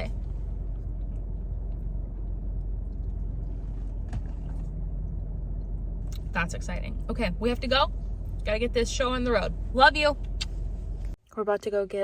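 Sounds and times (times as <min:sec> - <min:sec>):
low rumble inside running car: 0:00.0 - 0:11.2.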